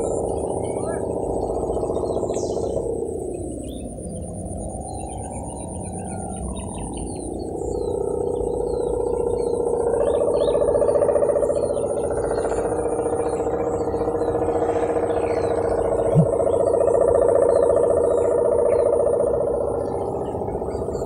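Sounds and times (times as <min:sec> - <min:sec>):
faint bird chirps: 0:00.0 - 0:21.0
kite hummer droning: 0:00.0 - 0:21.0.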